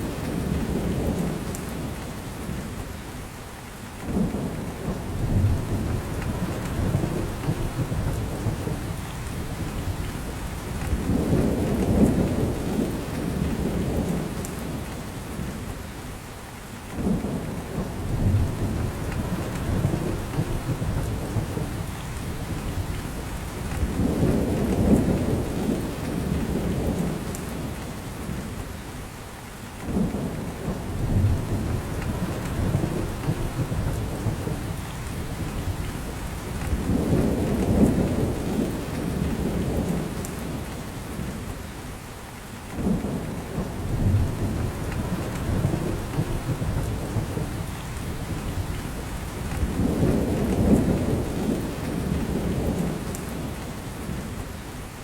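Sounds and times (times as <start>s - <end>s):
rain dripping from branches: 0.0s - 55.0s.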